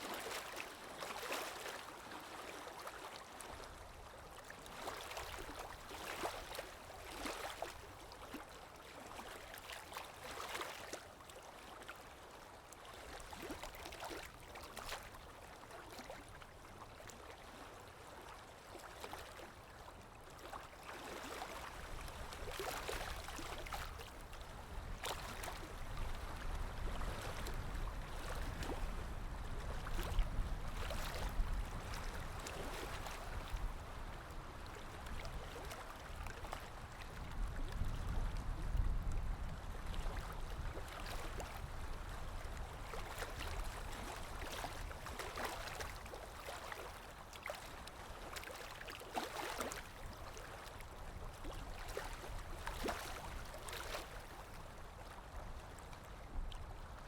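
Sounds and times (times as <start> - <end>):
water lapping: 0.0 - 57.0.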